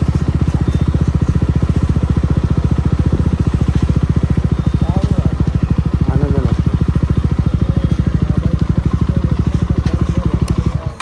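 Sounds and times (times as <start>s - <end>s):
motorcycle engine thudding: 0.0s - 11.0s.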